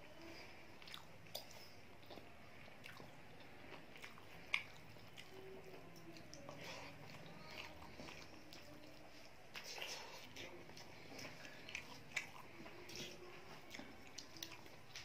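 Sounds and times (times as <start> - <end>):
person chewing: 0.2 - 15.0.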